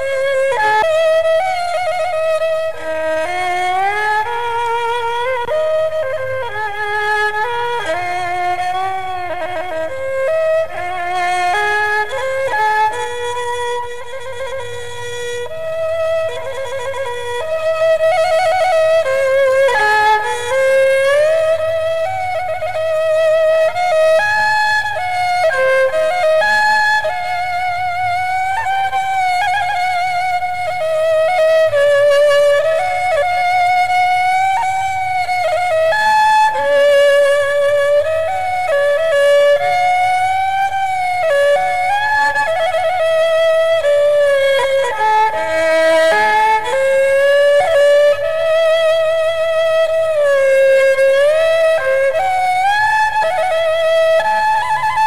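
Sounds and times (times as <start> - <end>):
spike fiddle melody: 0.0 - 55.0.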